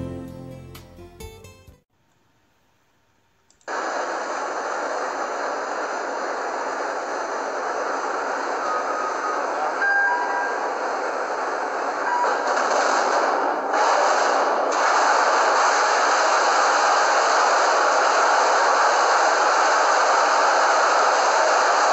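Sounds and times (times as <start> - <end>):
electric arc furnace noise: 3.6 - 21.9.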